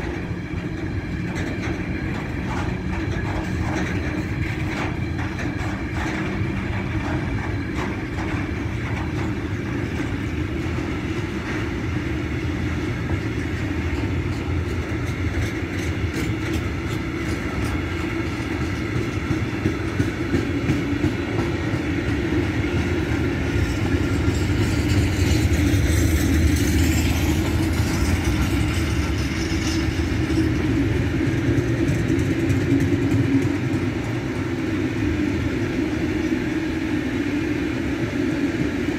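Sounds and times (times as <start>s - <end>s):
clicking over rail joints: 0.0s - 34.6s
train wheels rumbling on rail: 0.0s - 38.9s.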